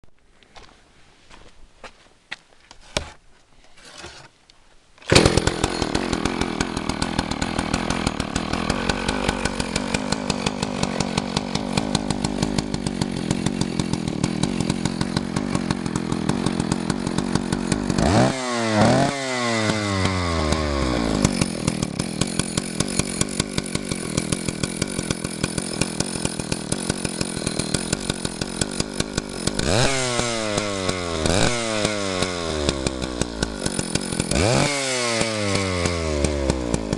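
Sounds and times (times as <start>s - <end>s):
chainsaw starting and idling: 5.0s - 36.9s
chainsaw revving: 5.1s - 36.9s.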